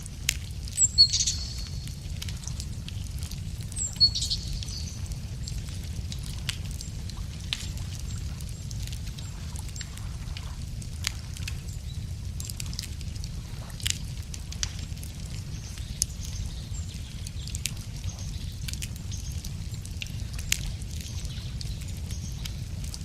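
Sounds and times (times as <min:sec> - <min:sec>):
steady low rumble: 0:00.0 - 0:23.0
wood fire crackling and popping: 0:00.0 - 0:23.0.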